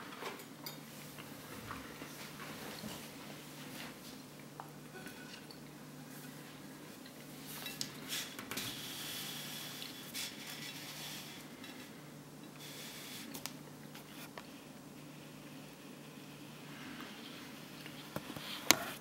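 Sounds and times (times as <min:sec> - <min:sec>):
steady low hum: 0:00.4 - 0:19.0.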